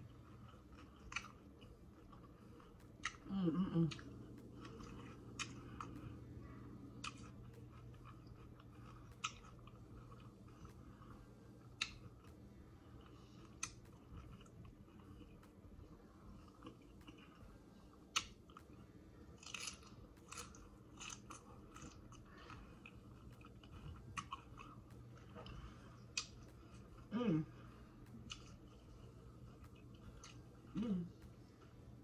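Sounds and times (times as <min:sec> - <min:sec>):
chewing crunchy taco: 0:00.0 - 0:32.0.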